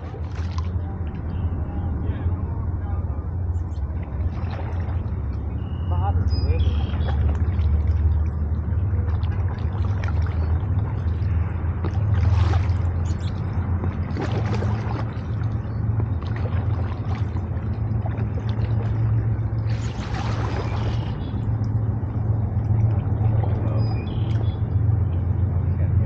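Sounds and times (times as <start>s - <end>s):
paddles dipping in water: 0.0s - 26.0s
steady low rumble: 0.0s - 26.0s
water sloshing: 0.0s - 26.0s.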